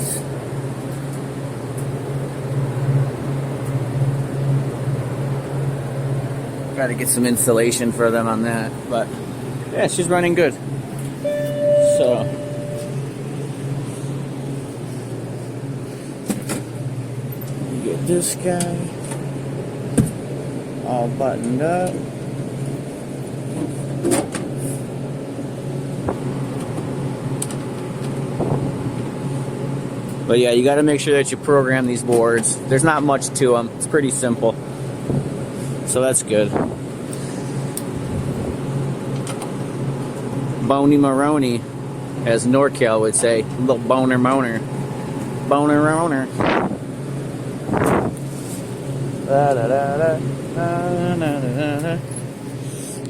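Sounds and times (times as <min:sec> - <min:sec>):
refrigeration fans humming: 0:00.0 - 0:53.0.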